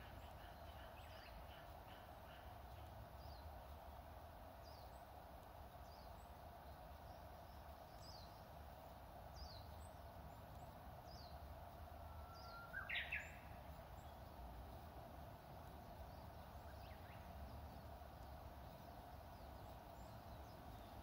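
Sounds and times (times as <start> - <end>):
bush warbler singing: 0.0 - 21.0.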